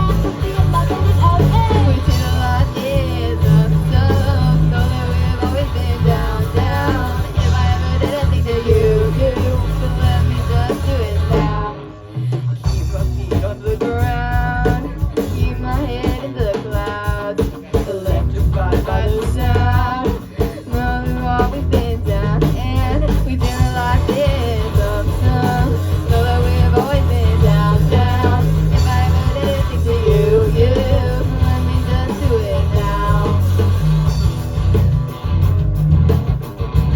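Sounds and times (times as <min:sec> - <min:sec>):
rock song with singing and guitar: 0:00.0 - 0:36.9.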